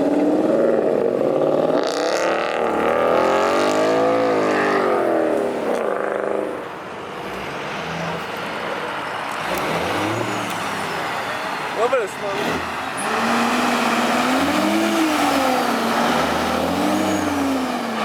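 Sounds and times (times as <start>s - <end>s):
car engine revving hard: 0.0s - 8.3s, 9.3s - 11.1s, 12.2s - 18.0s.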